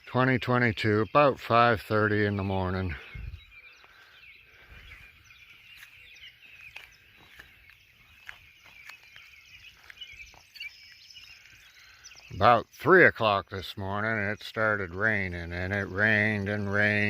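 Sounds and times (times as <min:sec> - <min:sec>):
songbirds chirping and warbling: 0:00.0 - 0:17.0.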